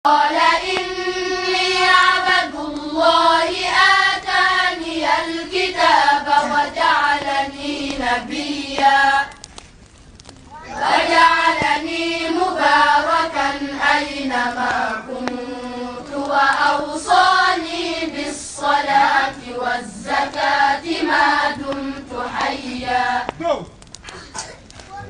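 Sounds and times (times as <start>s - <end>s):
person chanting melodically: 0.1s - 9.4s, 10.5s - 23.4s.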